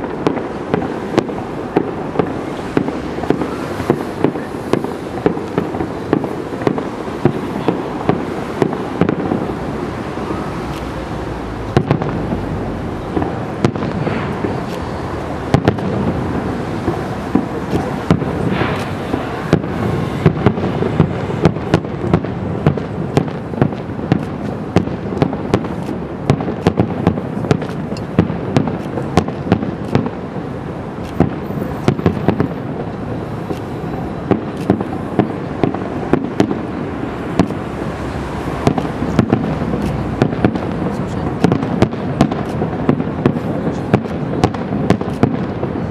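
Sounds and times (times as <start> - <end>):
firework shells bursting: 0.0 - 30.3, 30.9 - 45.8
dense wash of display noise: 0.0 - 45.9.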